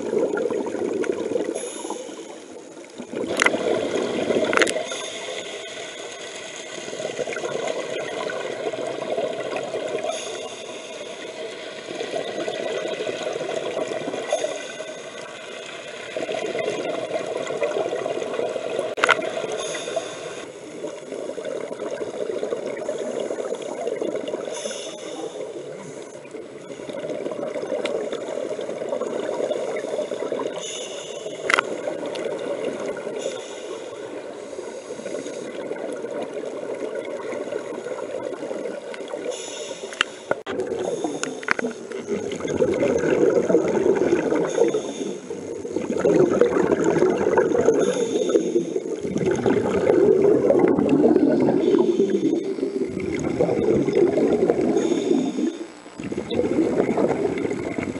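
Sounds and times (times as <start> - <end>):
exhaled bubbles gurgling underwater: 0.0 - 57.9.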